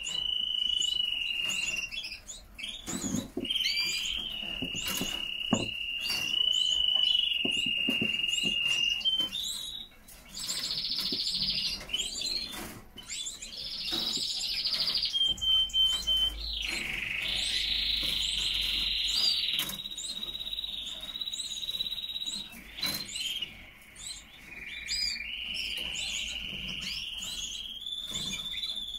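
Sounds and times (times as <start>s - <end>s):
canaries singing: 0.0s - 28.9s.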